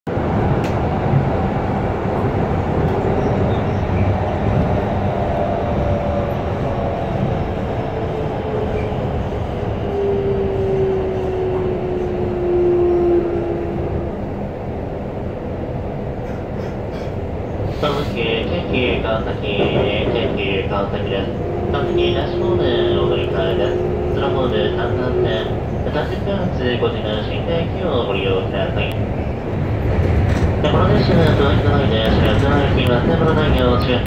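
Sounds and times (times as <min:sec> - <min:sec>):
train rumble: 0:00.1 - 0:34.0.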